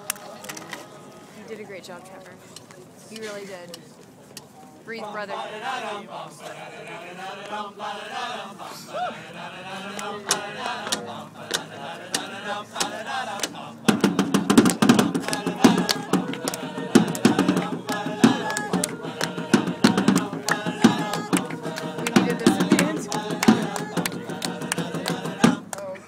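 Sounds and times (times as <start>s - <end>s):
choir singing: 0.0s - 2.0s, 4.9s - 25.8s
voices: 0.0s - 26.0s.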